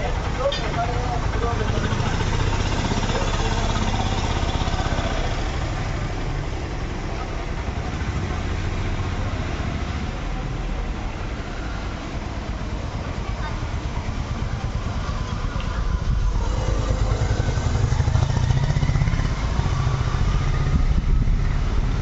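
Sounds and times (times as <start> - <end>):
engine idling: 0.0 - 21.9.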